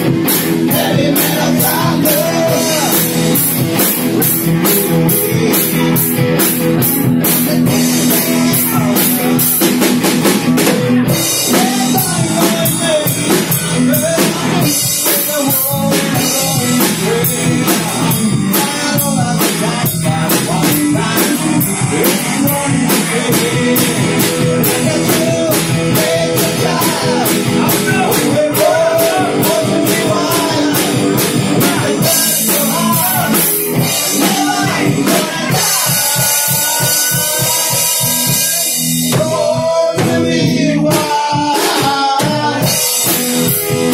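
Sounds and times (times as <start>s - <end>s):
drum kit beat: 0.0s - 43.9s
electric bass: 0.0s - 43.9s
electric guitar: 0.0s - 43.9s
live rock band playing: 0.0s - 43.9s.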